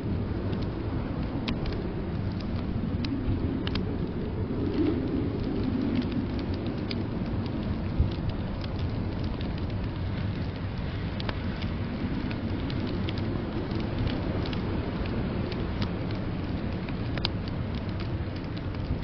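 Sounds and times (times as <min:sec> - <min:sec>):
blizzard wind rumble: 0:00.0 - 0:19.0
fireplace crackling and popping: 0:00.0 - 0:19.0.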